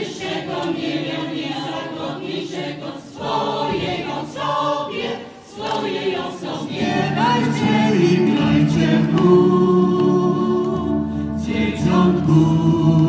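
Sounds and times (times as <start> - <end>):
choir singing a carol: 0.0 - 13.0.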